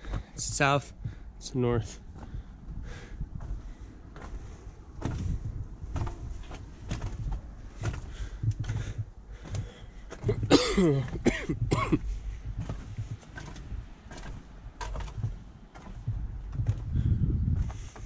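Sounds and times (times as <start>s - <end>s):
footsteps on wooden boards: 0.0s - 18.0s
wind rumble on microphone: 0.0s - 18.0s.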